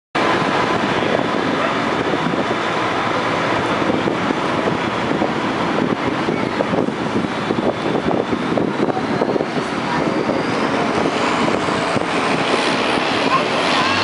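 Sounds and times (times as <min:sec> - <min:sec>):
tractor engines running: 0:00.2 - 0:14.0.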